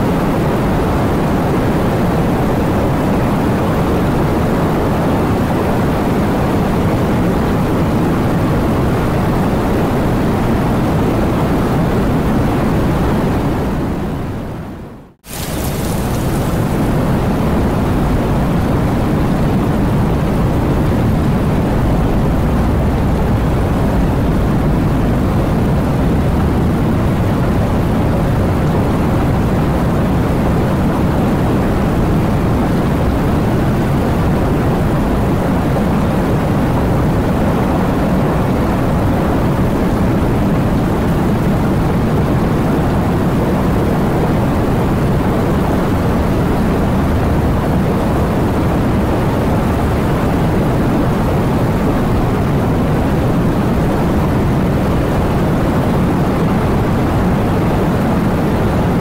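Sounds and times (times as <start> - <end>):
heavy rain: 10.9 - 59.0.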